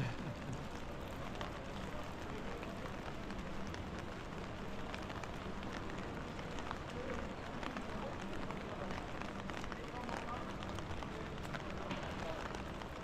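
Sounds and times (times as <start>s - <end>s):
raindrops ticking: 0.0s - 13.0s
steady rain on wet street: 0.0s - 13.0s.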